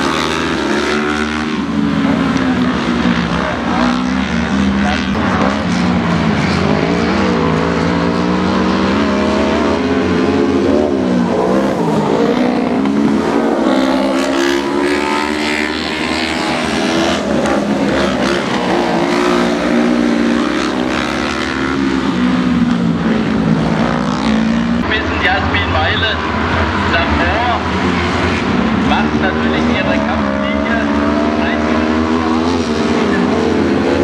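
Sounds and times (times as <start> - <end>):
racing engines revving: 0.0 - 34.0.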